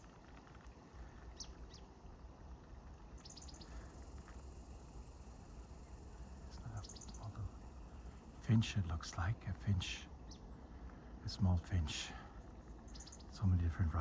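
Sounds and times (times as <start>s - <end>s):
small songbirds chirping: 0.0s - 14.0s.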